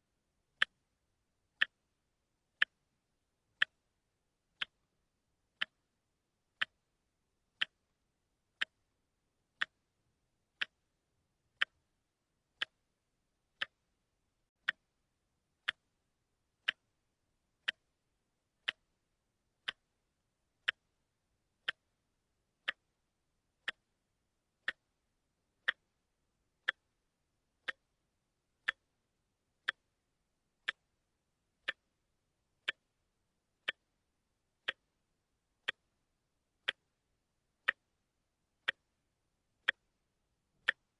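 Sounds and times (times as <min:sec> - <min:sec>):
watch ticking: 0:00.4 - 0:40.9.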